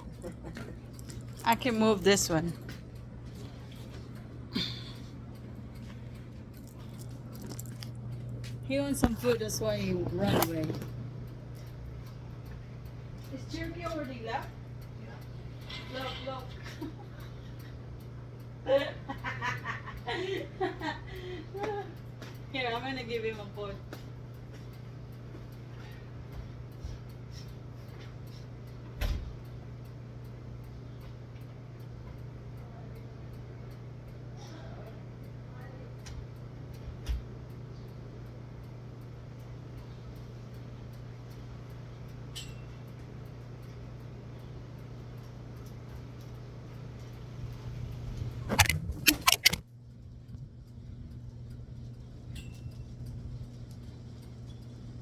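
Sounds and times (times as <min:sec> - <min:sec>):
faint regular ticking: 0:00.0 - 0:55.0
steady low hum: 0:00.0 - 0:55.0.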